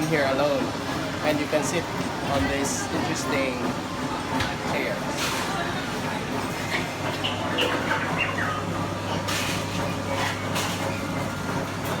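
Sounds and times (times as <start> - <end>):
restaurant room din: 0.0 - 12.0.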